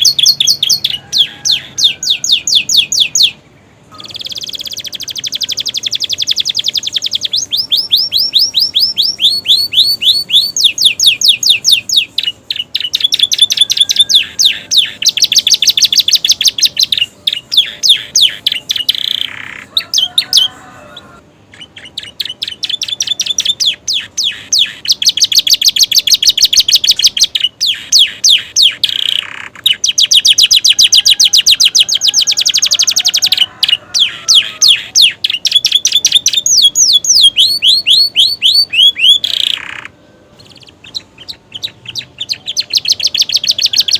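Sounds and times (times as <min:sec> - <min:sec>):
canary singing chirps and trills: 0:00.0 - 0:43.9.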